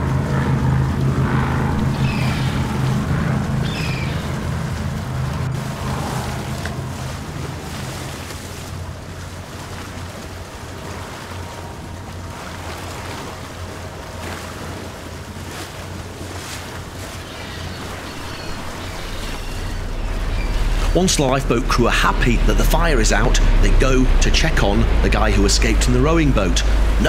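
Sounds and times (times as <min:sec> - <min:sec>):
choppy water: 0:00.0 - 0:27.0
outboard engines running: 0:00.0 - 0:27.0.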